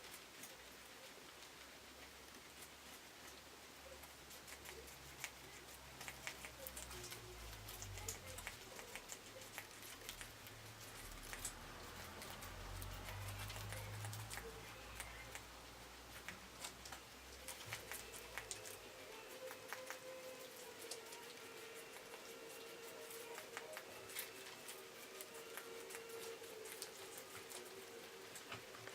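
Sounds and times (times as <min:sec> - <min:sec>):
guinea pig clicks and rustles: 0:00.0 - 0:28.9.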